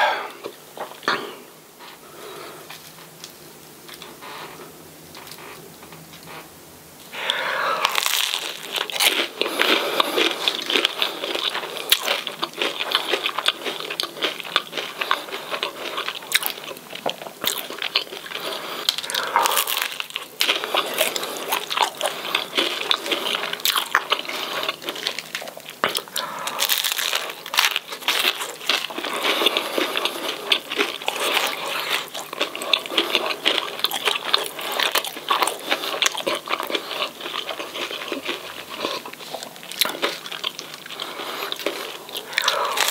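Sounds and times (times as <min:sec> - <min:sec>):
fried food crunching: 0:07.2 - 0:42.9.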